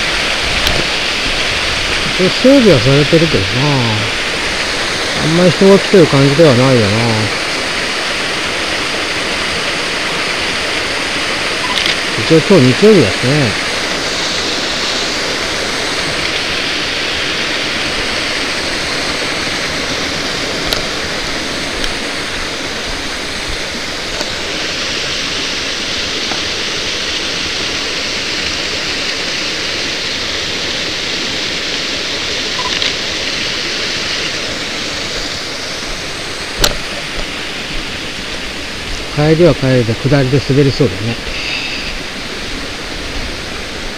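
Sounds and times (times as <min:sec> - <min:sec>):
waterfall and stream rushing: 0:00.0 - 0:43.9.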